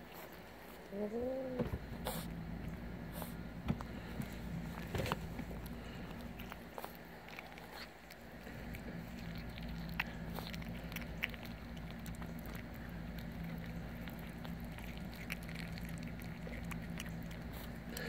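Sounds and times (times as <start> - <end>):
kittens chewing meat: 0.0 - 1.0, 1.8 - 18.0
steady low hum: 0.0 - 18.0.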